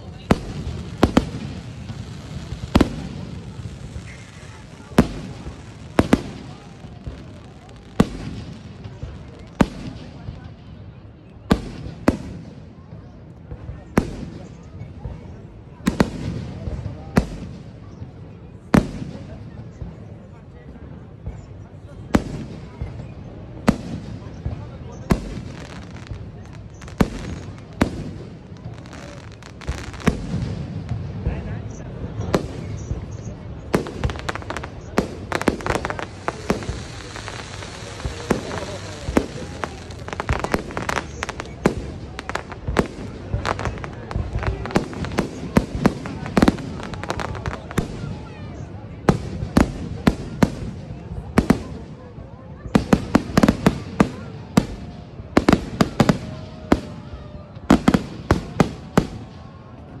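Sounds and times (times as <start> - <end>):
fireworks bangs and crackles: 0.0 - 60.0.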